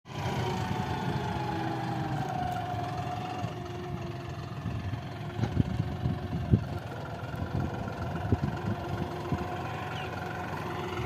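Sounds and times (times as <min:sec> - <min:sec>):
tractor diesel engine running: 0:00.1 - 0:11.0.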